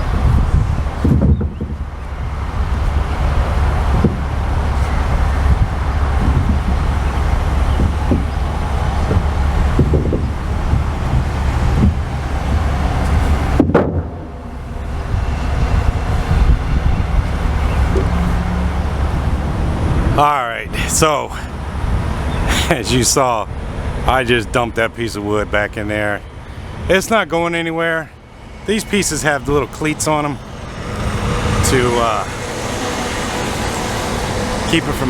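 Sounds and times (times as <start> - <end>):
vehicle engine and traffic noise: 0.0 - 35.0.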